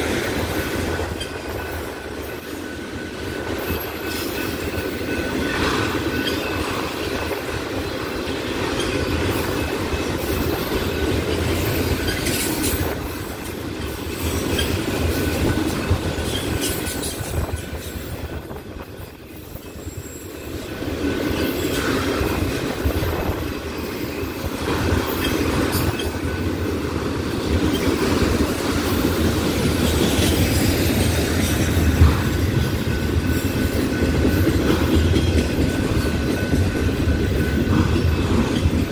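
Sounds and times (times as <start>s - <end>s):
wheels clattering over rail joints: 0.0s - 38.9s.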